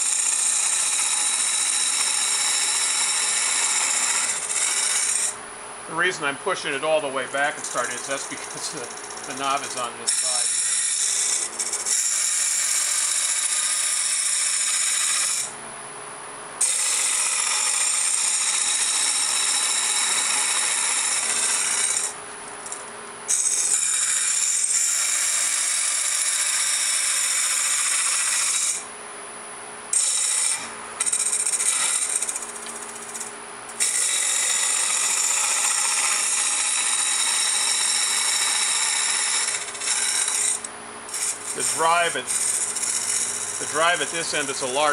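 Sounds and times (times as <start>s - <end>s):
lathe tool scraping wood: 0.0s - 5.4s, 6.0s - 15.5s, 16.6s - 28.9s, 29.9s - 44.9s
faint lathe hum: 0.0s - 44.9s.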